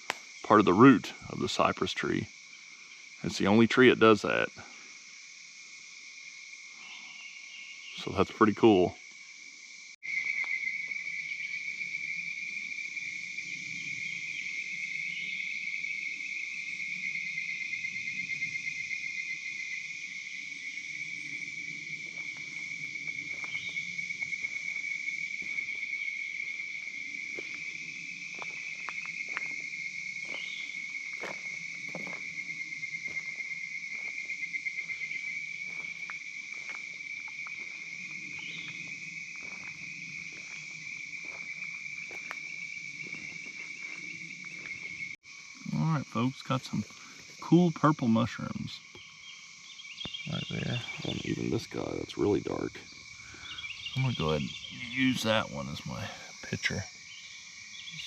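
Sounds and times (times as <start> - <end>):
swamp insects trilling: 0.0 - 58.0.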